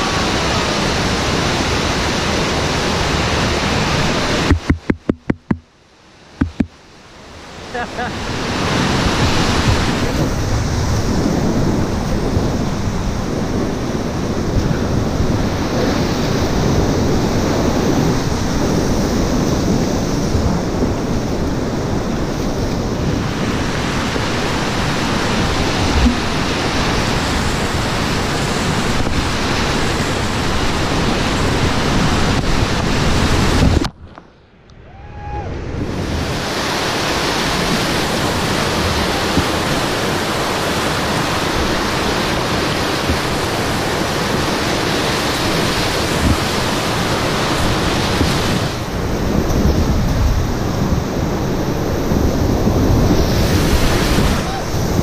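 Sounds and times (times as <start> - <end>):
whitewater rapids roaring: 0.0 - 5.5, 6.4 - 33.7, 34.8 - 55.0
wind noise on microphone: 0.0 - 5.7, 6.4 - 6.8, 8.1 - 55.0.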